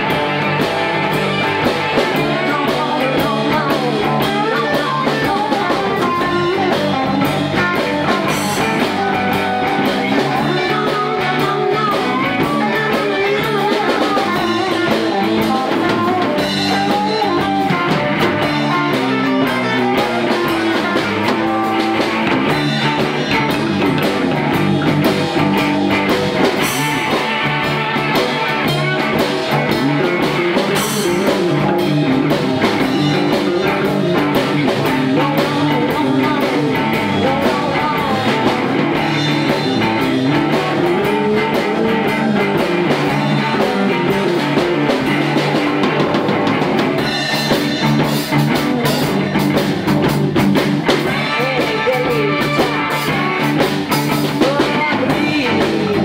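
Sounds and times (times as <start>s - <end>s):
person singing: 0.0s - 45.6s, 50.8s - 56.0s
live blues band: 0.0s - 56.0s
slide guitar: 0.0s - 56.0s.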